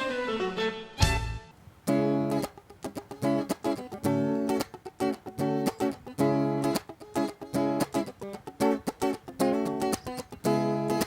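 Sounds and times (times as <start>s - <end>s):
guitar strumming clipped chords: 1.8s - 11.0s.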